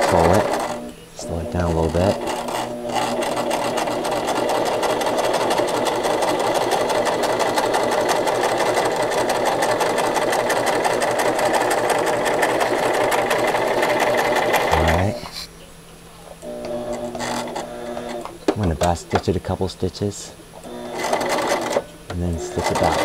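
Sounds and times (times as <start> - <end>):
electric sewing machine running: 0.0 - 15.2, 16.4 - 18.3, 20.6 - 23.0.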